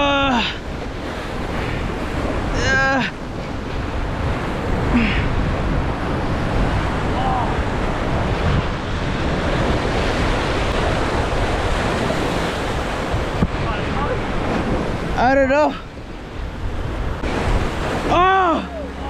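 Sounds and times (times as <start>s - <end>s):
ocean waves: 0.0s - 19.0s
wind buffeting microphone: 0.0s - 19.0s.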